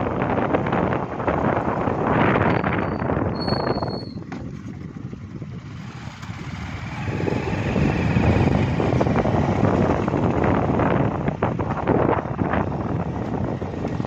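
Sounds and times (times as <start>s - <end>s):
motorcycle engines: 0.0s - 14.0s
wind rushing over microphone: 0.0s - 14.0s.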